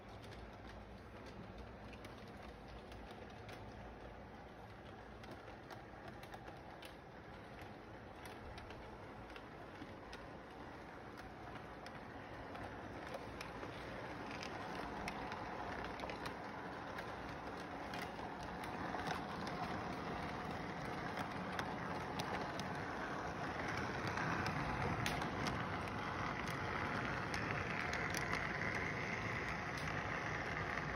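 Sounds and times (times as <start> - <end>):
clicks over rail joints: 0.0 - 30.9
model train whirring rumble: 0.0 - 30.9.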